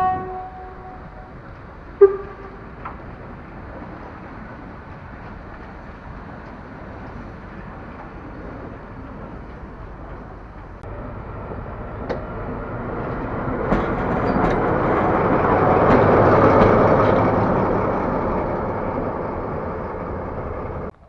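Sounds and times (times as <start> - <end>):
locomotive diesel engine running: 0.0 - 21.0.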